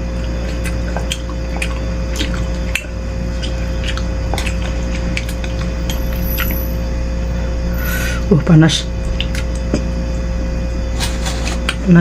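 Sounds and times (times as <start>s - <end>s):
person chewing wet food: 0.0s - 8.1s, 9.0s - 11.9s
steady electrical hum: 0.0s - 12.0s.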